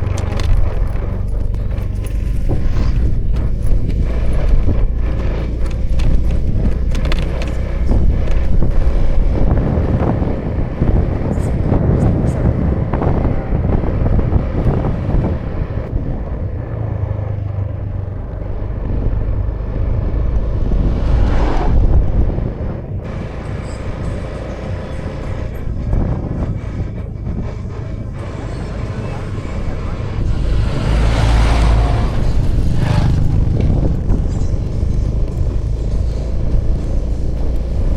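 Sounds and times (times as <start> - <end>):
scooter engine running: 0.0 - 20.9, 22.9 - 37.9
wind and road noise: 0.0 - 37.9.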